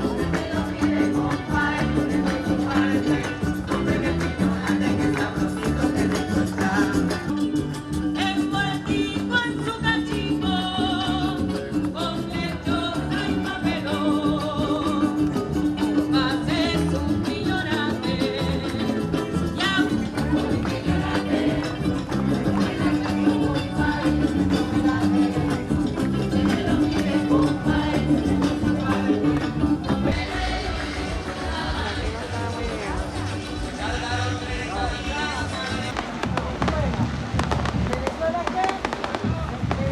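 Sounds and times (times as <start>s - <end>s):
upbeat latin dance music: 0.0s - 39.9s.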